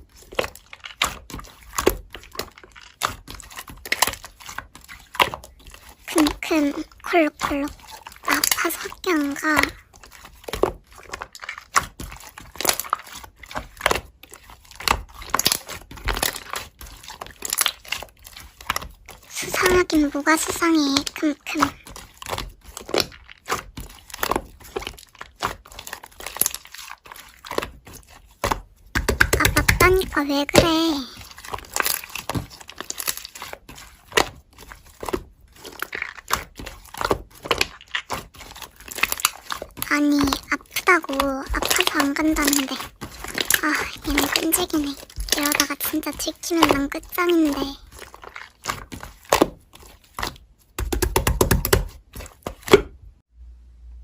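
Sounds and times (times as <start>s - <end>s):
slime squishing and crackling: 0.0s - 53.0s.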